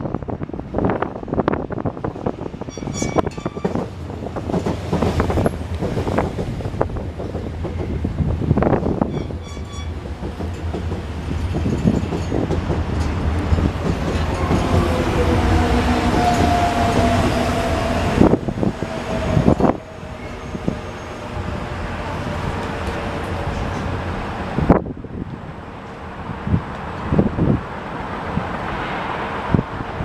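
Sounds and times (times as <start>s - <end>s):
subway train rumbling: 0.0s - 30.0s.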